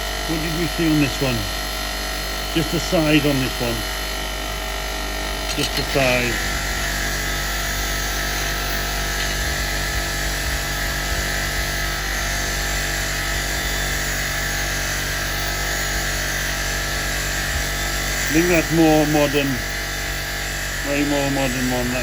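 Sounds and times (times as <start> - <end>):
rotary wire brush motor humming: 0.0 - 22.0.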